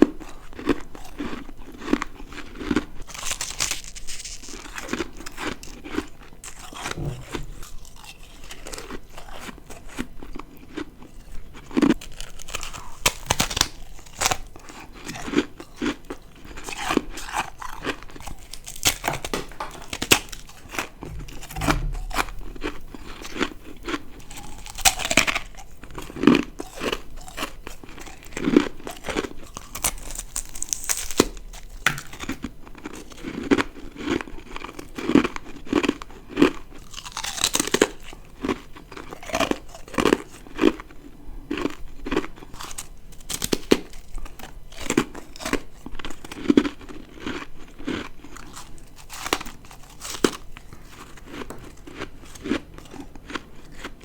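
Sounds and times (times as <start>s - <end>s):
crunching and chewing ice: 0.0s - 54.0s.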